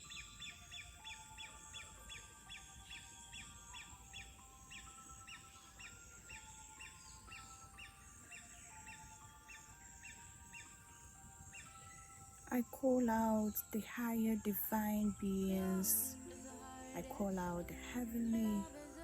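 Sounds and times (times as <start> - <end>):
bird chirping: 0.0 - 19.0
soft music of held notes: 0.0 - 19.0.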